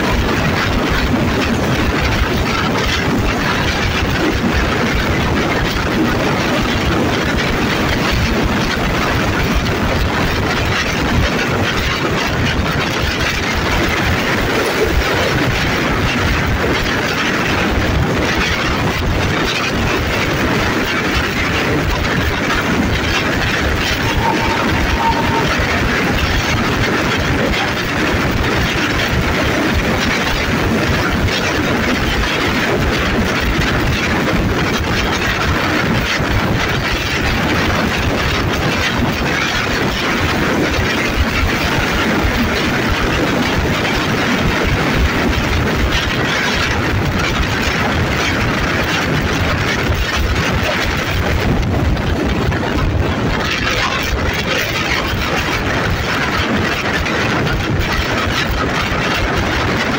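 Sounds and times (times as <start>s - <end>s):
locomotive engine running: 0.0s - 59.9s
train wheels on rails: 0.0s - 59.9s.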